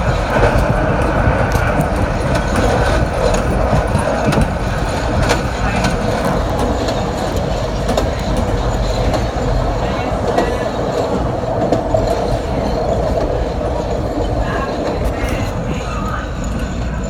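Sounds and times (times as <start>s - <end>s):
track clicks: 0.0s - 17.0s
train wheels rumbling on rails: 0.0s - 17.0s.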